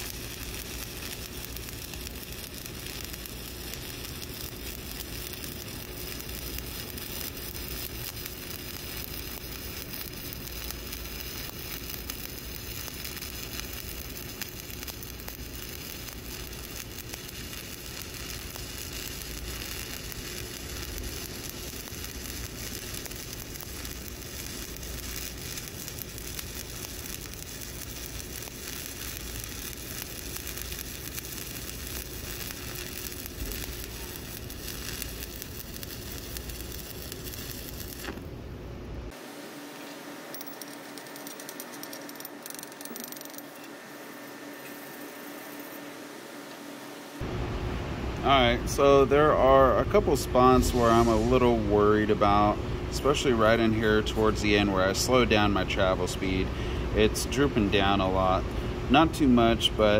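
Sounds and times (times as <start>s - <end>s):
arc welding crackling sizzle: 0.0s - 59.9s.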